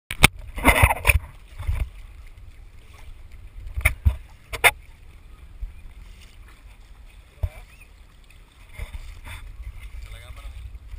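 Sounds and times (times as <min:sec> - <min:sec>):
water splashing against hulls: 0:00.1 - 0:10.9
wind rumble on microphone: 0:00.1 - 0:10.9.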